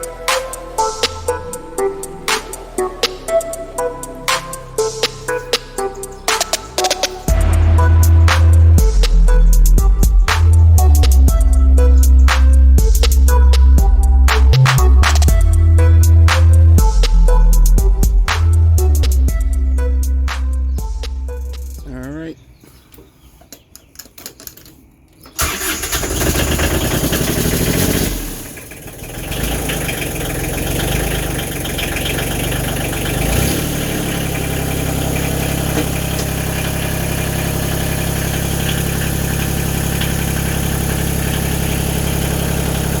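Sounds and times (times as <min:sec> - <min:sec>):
tractor diesel engine starting and idling: 0:00.0 - 0:17.7, 0:25.2 - 0:43.0.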